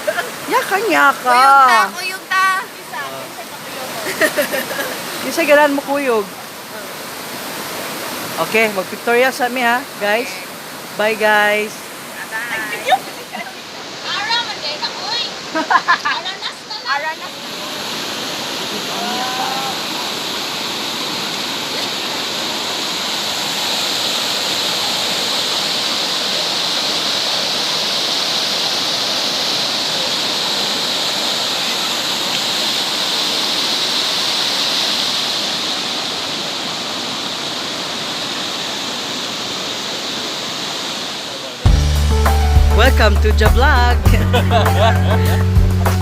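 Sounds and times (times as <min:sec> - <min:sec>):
river water rushing: 0:00.0 - 0:46.0.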